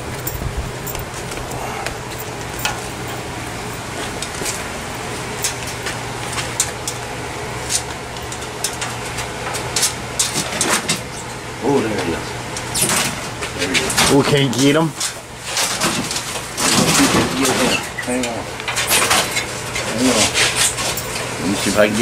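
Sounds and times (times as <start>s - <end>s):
items being handled and shifted: 0.0s - 11.4s, 12.0s - 22.0s
steady low hum: 0.0s - 22.0s.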